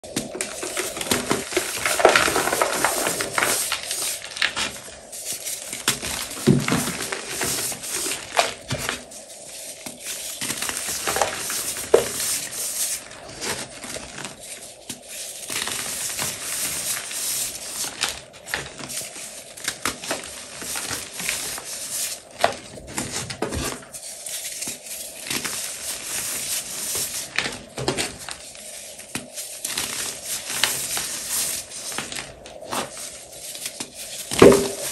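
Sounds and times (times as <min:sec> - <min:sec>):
chalk cracking and crumbling: 0:00.0 - 0:34.9.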